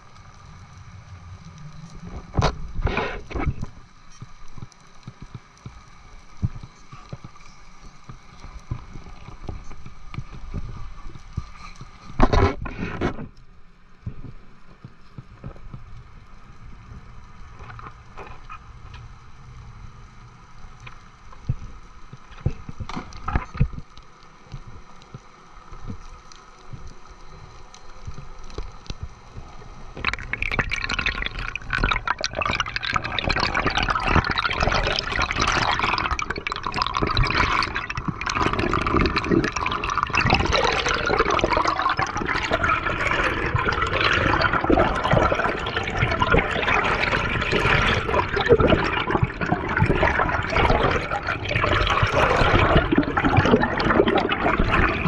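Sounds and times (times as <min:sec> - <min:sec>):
water sloshing and bubbling: 0:00.0 - 0:55.0.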